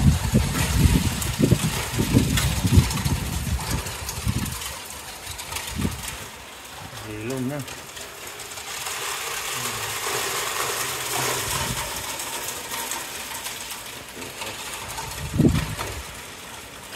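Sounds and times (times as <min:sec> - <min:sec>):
hailstones clattering: 0:00.0 - 0:16.9.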